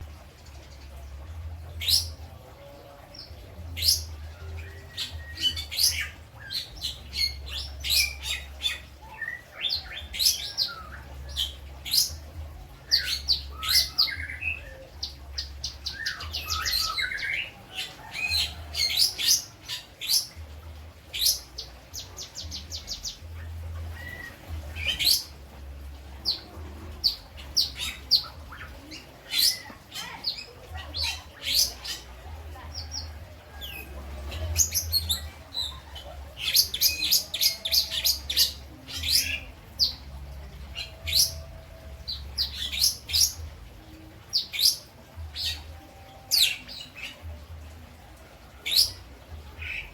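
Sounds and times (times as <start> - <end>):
lovebird chirps and trills: 0.0 - 49.9.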